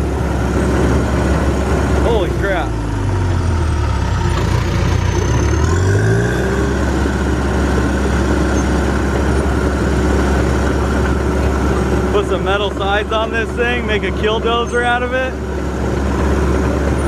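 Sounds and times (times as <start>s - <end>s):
bulldozer diesel engine revving: 0.0s - 17.0s.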